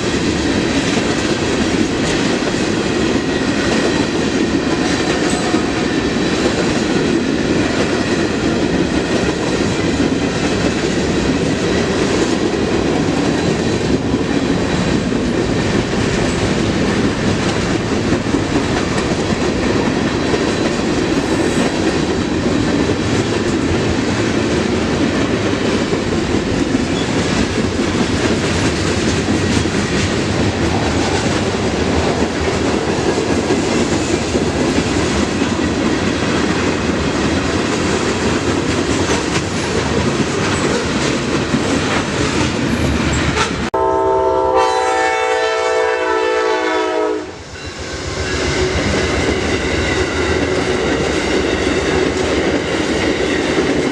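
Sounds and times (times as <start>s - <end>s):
train cars rumbling past: 0.0s - 53.9s.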